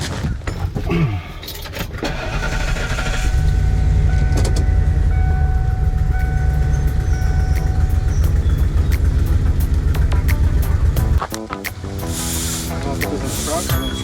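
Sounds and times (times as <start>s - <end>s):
vehicle engine starting and running: 1.5s - 14.0s.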